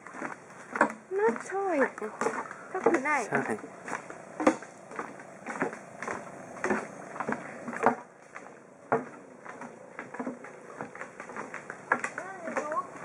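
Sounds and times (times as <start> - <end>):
footsteps on wooden boardwalk: 0.0 - 13.0.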